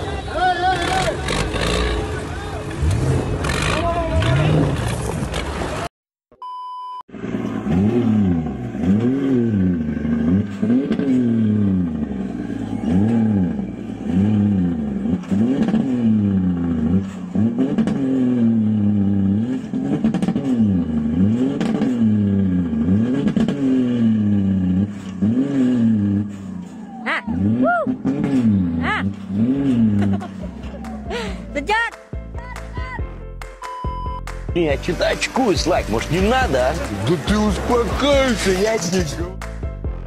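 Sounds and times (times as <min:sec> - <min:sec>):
truck diesel engine revving: 0:00.1 - 0:05.8, 0:07.1 - 0:31.8, 0:34.3 - 0:40.0.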